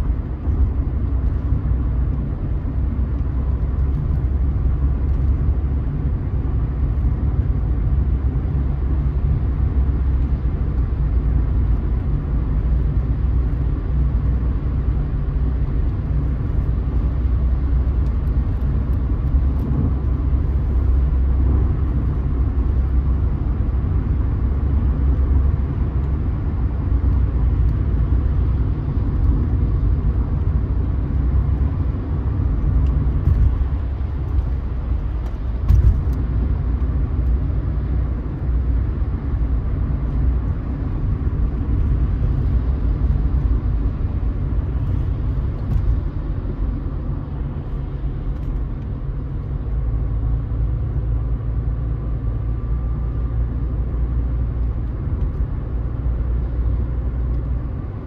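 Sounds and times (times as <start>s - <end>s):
car cabin road and engine rumble: 0.0s - 58.0s.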